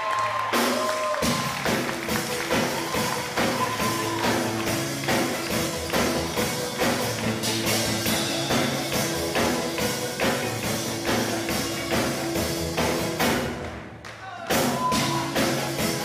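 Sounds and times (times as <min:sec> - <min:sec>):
drum kit steady beat: 0:00.5 - 0:16.0.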